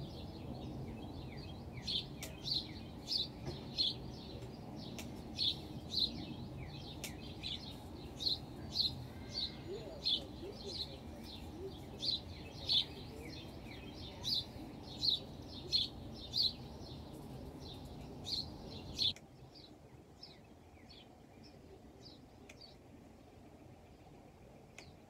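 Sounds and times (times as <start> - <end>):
bird chirping: 0.0 - 25.0
low background noise: 0.0 - 25.0.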